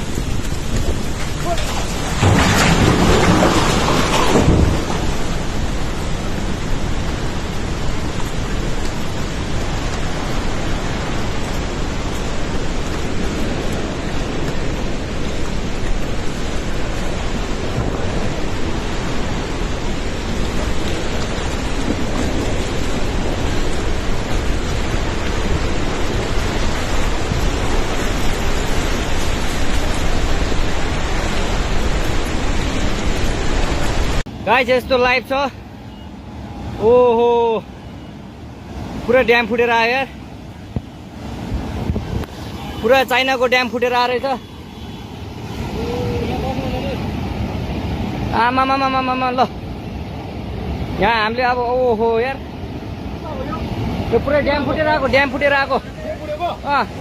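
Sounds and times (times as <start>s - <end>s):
floodwater roaring in a river: 0.0s - 57.0s.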